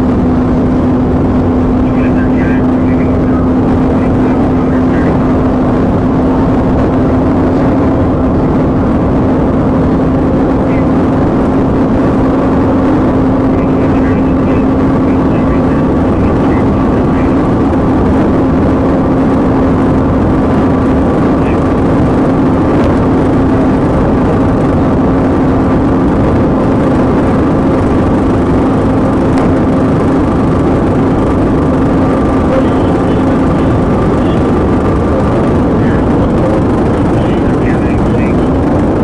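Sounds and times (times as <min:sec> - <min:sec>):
car engine tyre and wind drone: 0:00.0 - 0:39.0.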